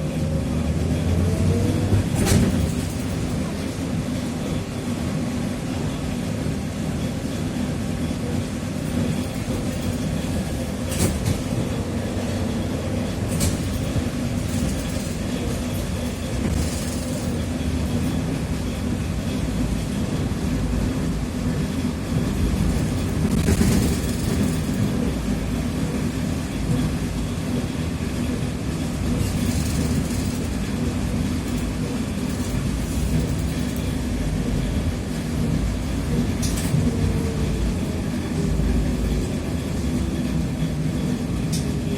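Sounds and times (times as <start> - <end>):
trolleybus running noise: 0.0 - 41.9.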